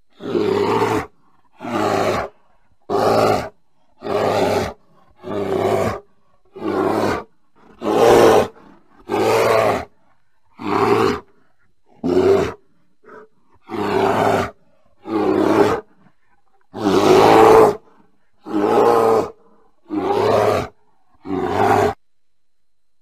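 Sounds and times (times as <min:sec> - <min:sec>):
bear calling: 0:00.0 - 0:22.0.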